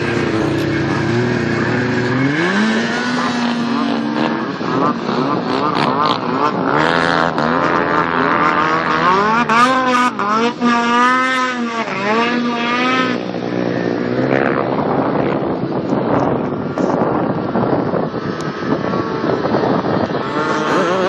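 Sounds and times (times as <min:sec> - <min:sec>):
snowmobile engine at high revs: 0:00.0 - 0:21.0.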